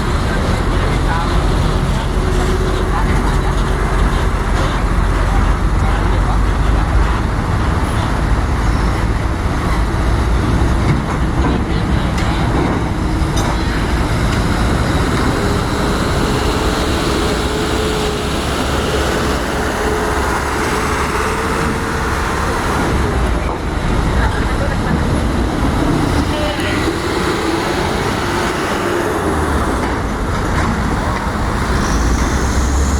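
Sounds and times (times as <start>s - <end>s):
heavy engine machinery rumbling: 0.0s - 32.9s.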